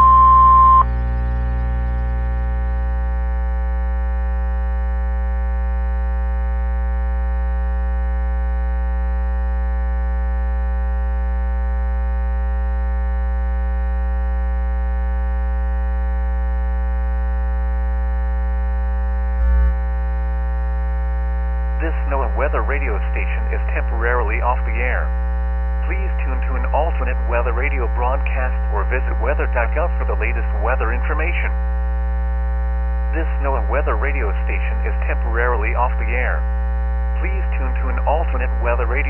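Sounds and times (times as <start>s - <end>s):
loud electrical hum: 0.0s - 39.0s.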